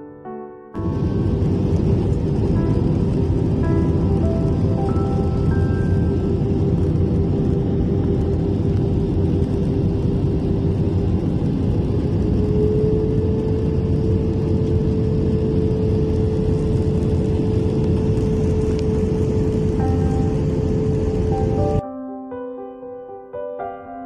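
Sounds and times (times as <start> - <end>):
steady hum: 0.8 - 21.8
jet engine cabin drone: 0.8 - 21.9.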